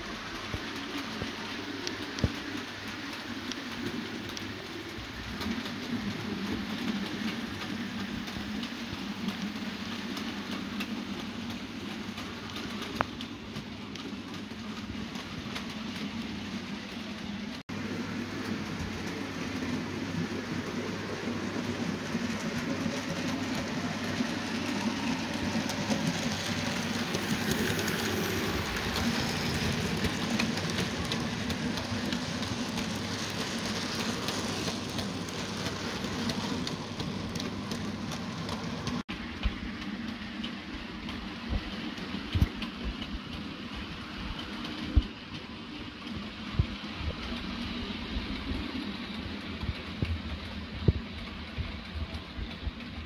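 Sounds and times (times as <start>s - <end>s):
model train wheels rumbling: 0.0s - 53.0s.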